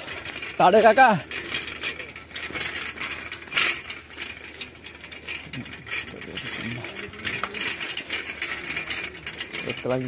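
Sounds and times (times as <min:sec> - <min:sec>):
bicycle rattling on gravel: 0:00.0 - 0:10.0.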